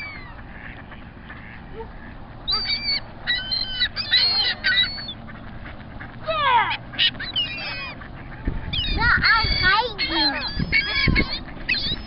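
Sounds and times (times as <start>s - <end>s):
waterfowl calling: 0.0s - 12.0s.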